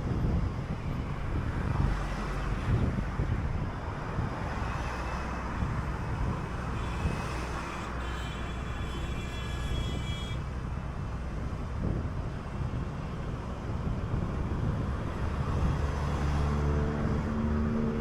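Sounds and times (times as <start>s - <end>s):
bus engine rumble: 0.0s - 18.0s
road noise: 0.0s - 18.0s.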